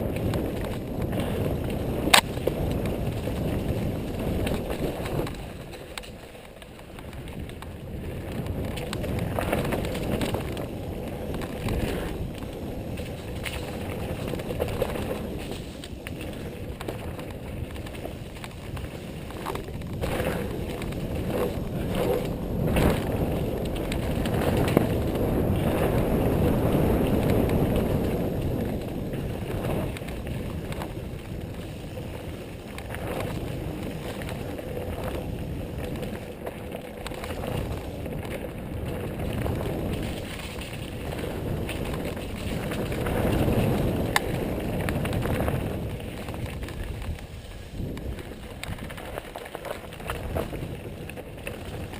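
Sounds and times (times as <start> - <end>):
bike knocking and clattering: 0.0 - 51.9
bike tyre rumble on dirt: 0.0 - 51.9.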